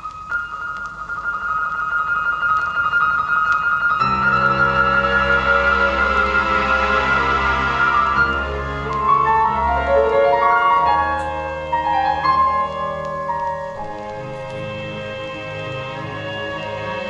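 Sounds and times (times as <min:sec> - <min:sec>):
piano chords through a loudspeaker: 0:00.0 - 0:17.0.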